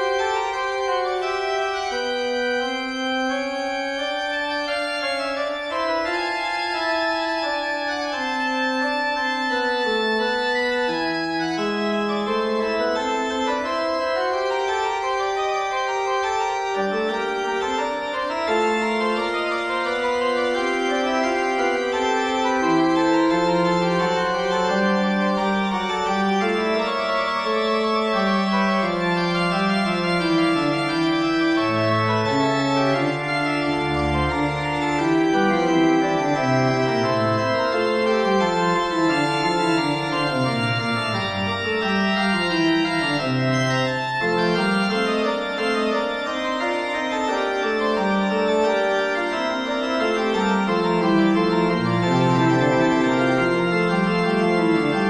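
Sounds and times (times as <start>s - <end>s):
organ fugue: 0.0s - 55.0s.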